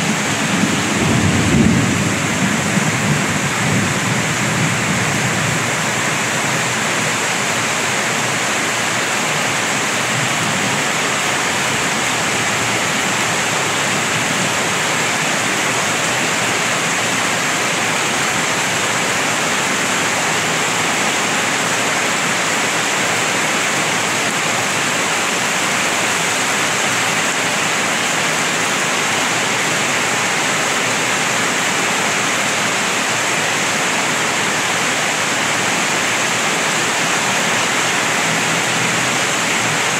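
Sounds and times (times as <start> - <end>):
heavy rain on wet street: 0.0 - 39.9.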